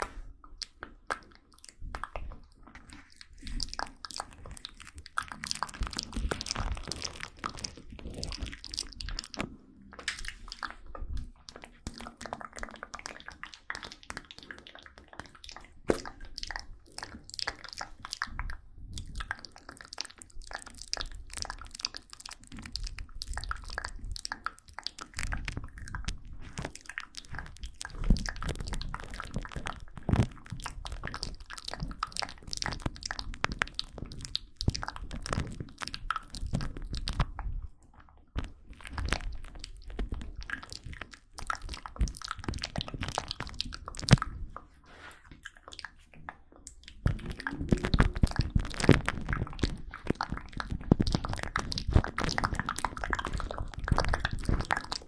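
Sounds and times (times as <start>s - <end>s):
wet mouth clicks and crackles: 0.0s - 55.0s.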